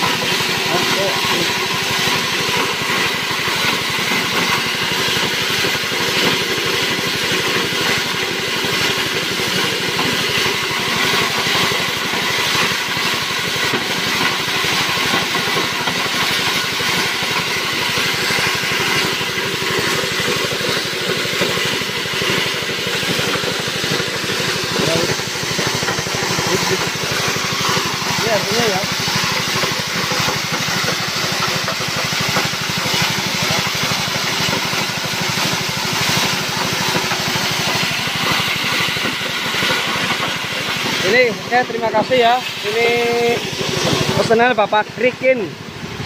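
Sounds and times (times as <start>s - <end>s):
petrol engine running: 0.0s - 46.0s.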